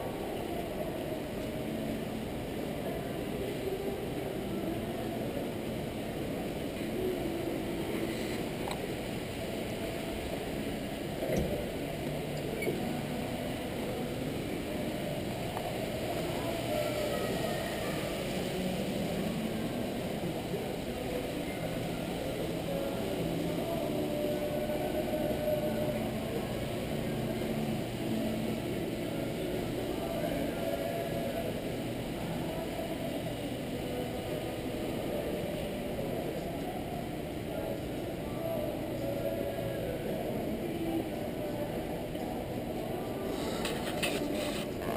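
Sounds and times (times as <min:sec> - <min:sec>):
faint indistinct voices: 0:00.0 - 0:44.9
faint steady tones: 0:00.0 - 0:44.9.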